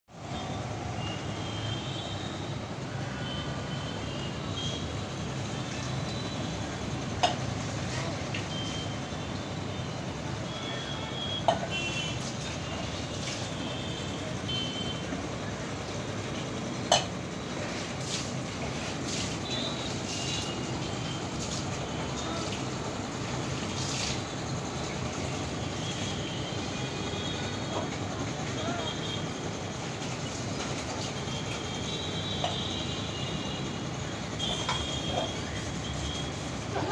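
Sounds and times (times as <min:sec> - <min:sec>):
low rumble of engines: 0:00.1 - 0:36.9.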